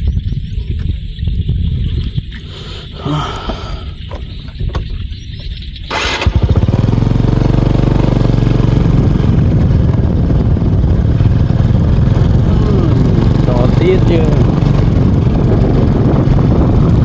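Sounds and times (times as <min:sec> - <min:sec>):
motorcycle engine starting and idling: 0:02.2 - 0:17.0.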